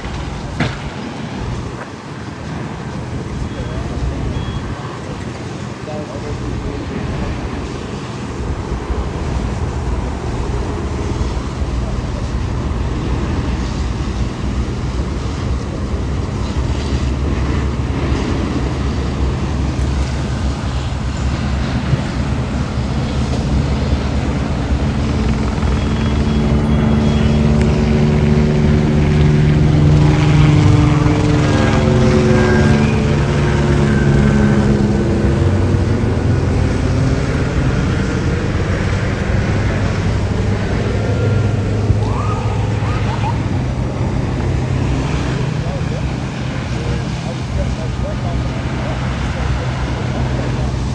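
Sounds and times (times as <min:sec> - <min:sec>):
droning engine tone: 0:00.0 - 0:50.9
engine rumble: 0:00.0 - 0:50.9.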